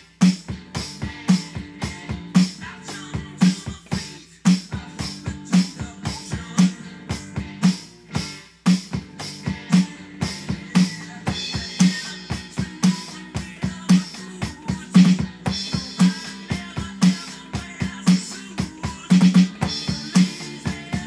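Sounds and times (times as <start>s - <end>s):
electronic drum kit rock groove: 0.0s - 21.0s.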